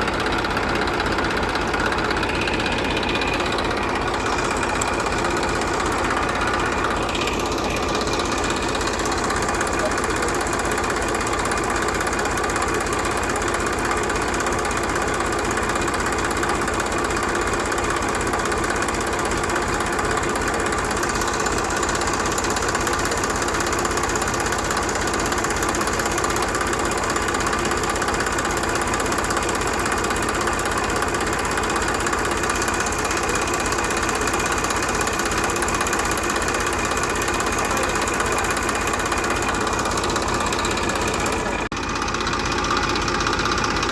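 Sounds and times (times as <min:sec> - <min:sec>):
tractor engine chugging: 0:00.0 - 0:43.9.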